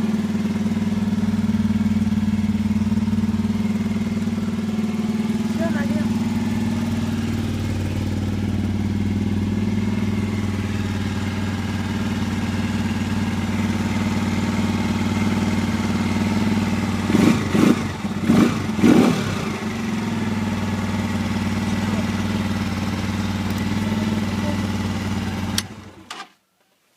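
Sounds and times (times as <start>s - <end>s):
motorcycle engine idling: 0.0s - 26.1s
motorcycle throttle blips: 0.1s - 26.2s.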